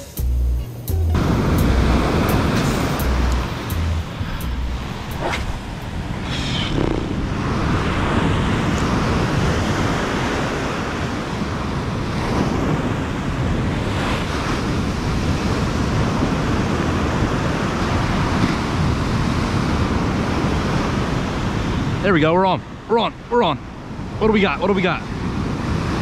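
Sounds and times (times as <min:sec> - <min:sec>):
wind buffeting microphone: 0:01.2 - 0:22.9, 0:23.6 - 0:26.0
ocean surf breaking: 0:01.2 - 0:26.0.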